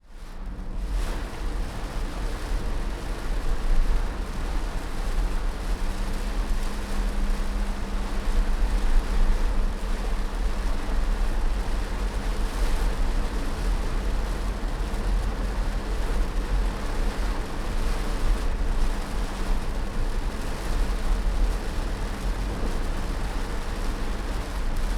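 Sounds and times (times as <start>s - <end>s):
rain hissing on car: 0.2s - 24.9s.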